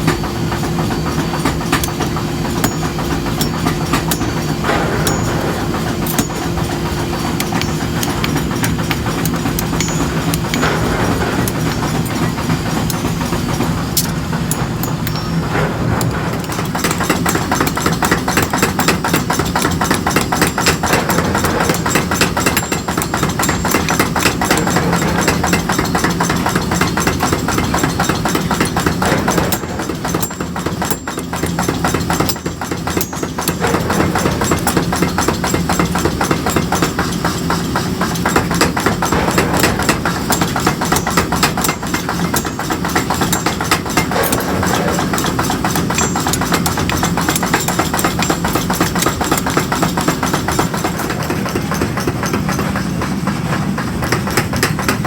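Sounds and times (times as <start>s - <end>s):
machine humming and clattering: 0.0s - 55.0s.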